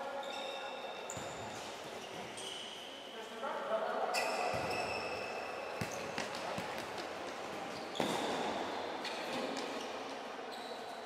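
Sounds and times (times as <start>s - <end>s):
shoe squeaking on hard court: 0.1s - 3.2s, 4.1s - 7.0s, 7.7s - 11.0s.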